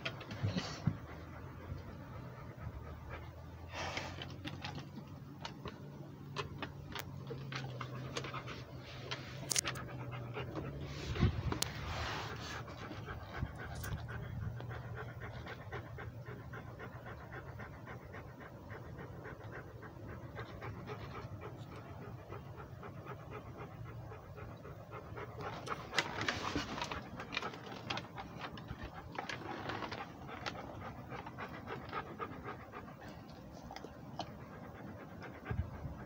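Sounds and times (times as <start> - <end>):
dog panting: 0.0 - 36.0.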